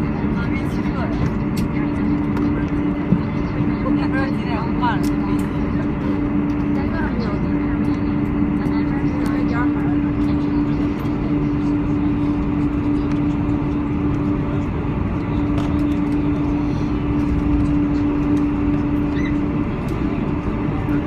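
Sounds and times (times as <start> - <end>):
airliner engines rushing: 0.0 - 21.0
constant low hum: 0.0 - 21.0.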